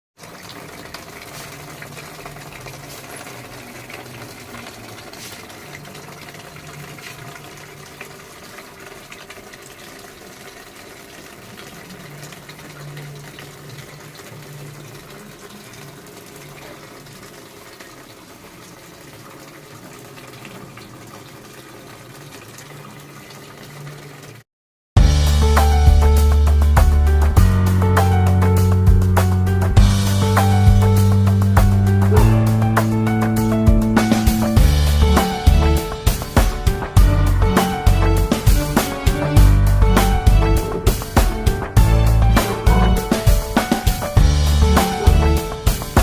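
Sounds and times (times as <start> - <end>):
fountain water splashing: 0.2 - 24.4, 29.8 - 46.0.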